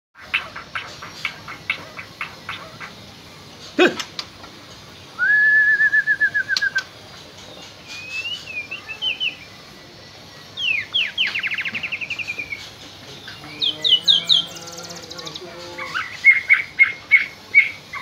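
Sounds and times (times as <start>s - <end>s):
bird singing trills: 0.2s - 18.0s.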